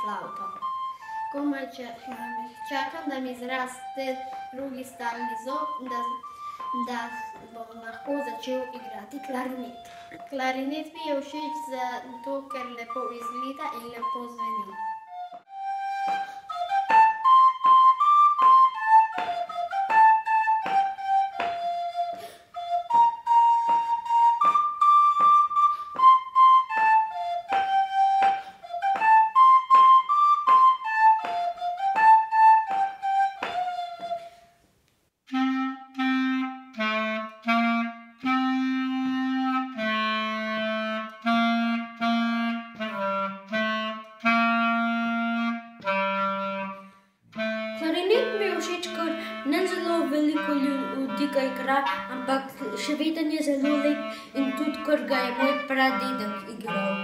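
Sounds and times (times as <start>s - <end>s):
clarinet low held notes: 0.0s - 34.4s, 35.3s - 57.0s
recorder playing simple tune: 0.0s - 34.6s, 35.3s - 57.0s.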